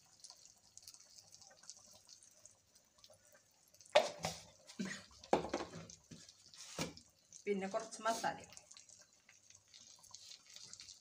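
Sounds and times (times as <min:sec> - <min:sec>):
pot simmering: 0:00.0 - 0:11.0.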